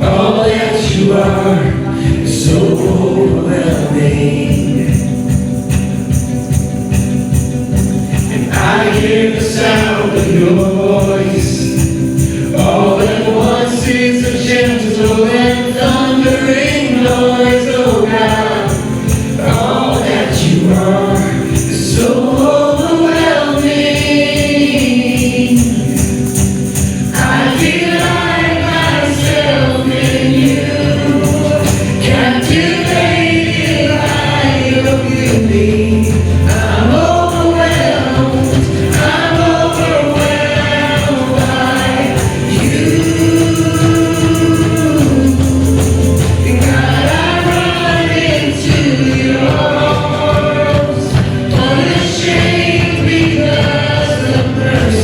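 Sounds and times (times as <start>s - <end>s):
band playing worship song: 0.0s - 55.0s
voices singing: 0.0s - 55.0s.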